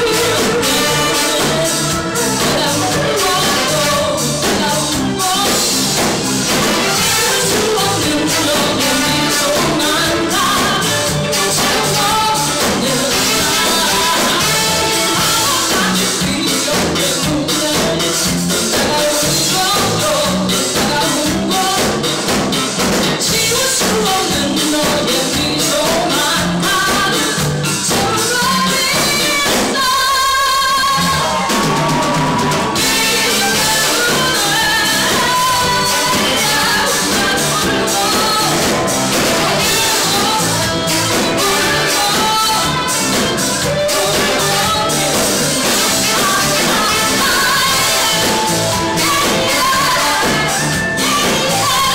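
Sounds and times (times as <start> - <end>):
live band playing: 0.0 - 51.9
woman singing: 0.0 - 51.9.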